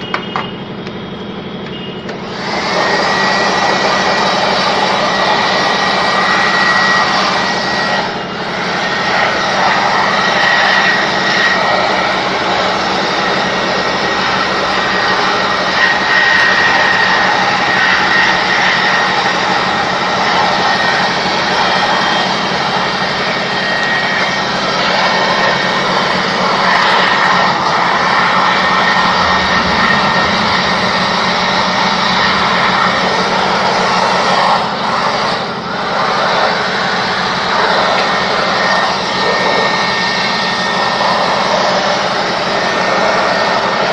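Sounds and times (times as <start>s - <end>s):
electric air blower rushing: 0.0s - 43.9s.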